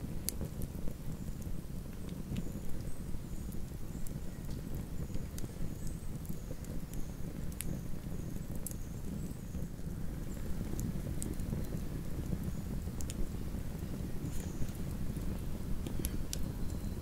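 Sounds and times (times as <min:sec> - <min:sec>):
campfire crackling and popping: 0:00.0 - 0:17.0
fire low rumble: 0:00.0 - 0:17.0.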